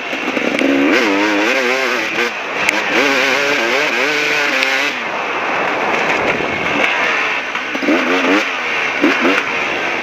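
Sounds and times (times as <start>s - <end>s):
dirt bike engine revving: 0.0s - 10.0s
steady rushing noise: 0.0s - 10.0s.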